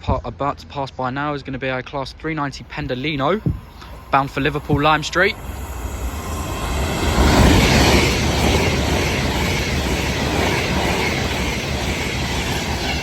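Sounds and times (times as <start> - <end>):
electric train passing at speed: 2.5 - 13.0.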